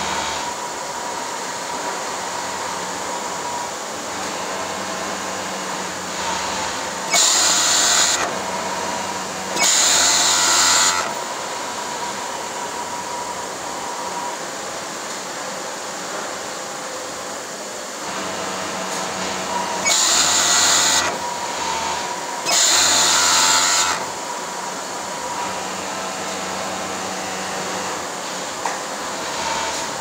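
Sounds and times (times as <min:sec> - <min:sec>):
industrial sewing machine running: 0:00.0 - 0:14.2, 0:18.0 - 0:30.0
workshop machinery hum: 0:00.0 - 0:30.0.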